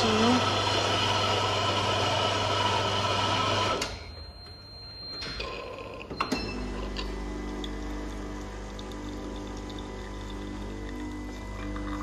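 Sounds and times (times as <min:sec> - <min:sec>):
coffee machine grinding beans: 0:00.0 - 0:03.9, 0:05.9 - 0:12.0
coffee machine humming: 0:00.0 - 0:04.2, 0:05.0 - 0:12.0.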